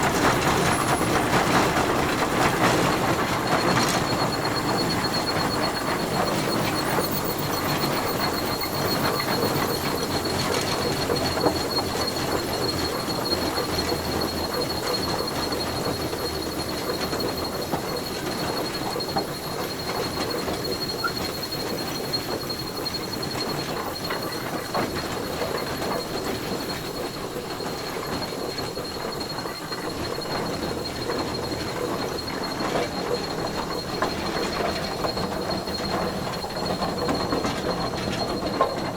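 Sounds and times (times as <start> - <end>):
tractor engine rumbling: 0.0 - 38.9.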